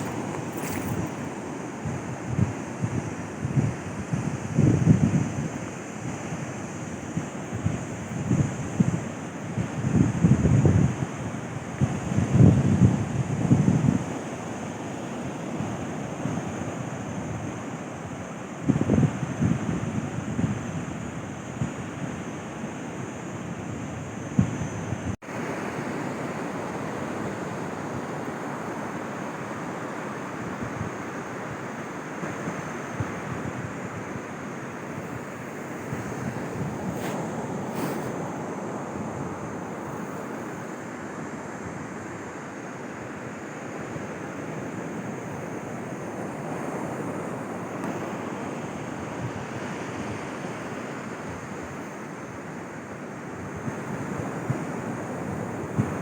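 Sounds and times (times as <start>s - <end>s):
sea surf on sandy beach: 0.0s - 56.0s.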